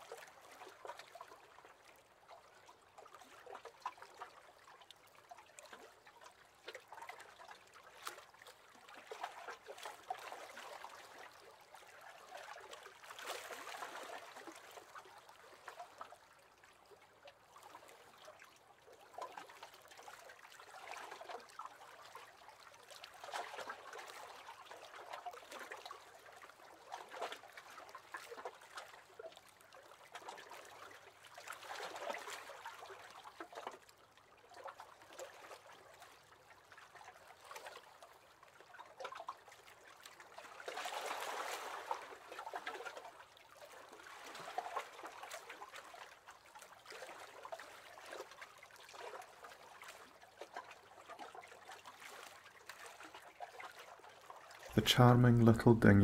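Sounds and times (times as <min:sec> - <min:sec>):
little water splashes: 0:00.0 - 0:56.0
small waves lapping against boat hull: 0:00.0 - 0:56.0.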